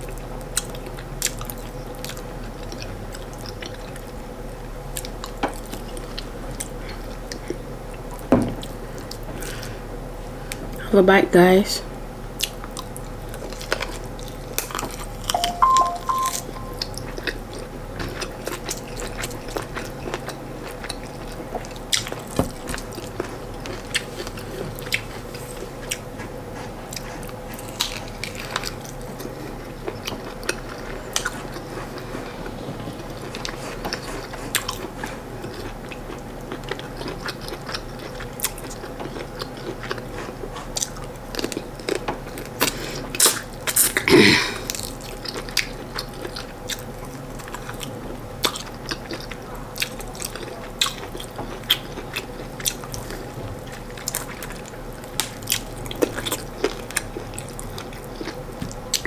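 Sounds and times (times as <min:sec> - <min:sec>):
chewing and wet mouth smacks: 0:00.0 - 0:04.2, 0:04.9 - 0:09.6, 0:12.4 - 0:16.0, 0:16.7 - 0:32.2, 0:33.2 - 0:44.0, 0:44.7 - 0:59.0
faint steady hum: 0:00.0 - 0:59.0.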